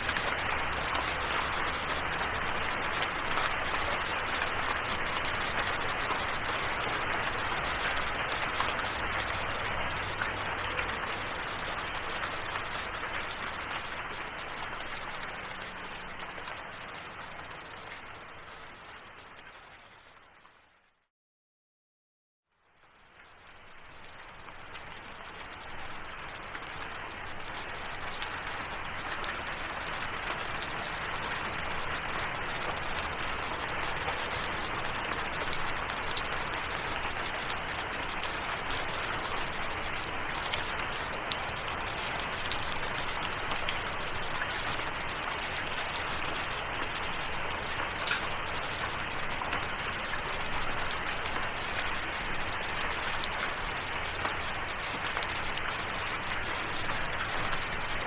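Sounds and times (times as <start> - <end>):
steady rain hiss: 0.0 - 18.6, 22.7 - 58.0.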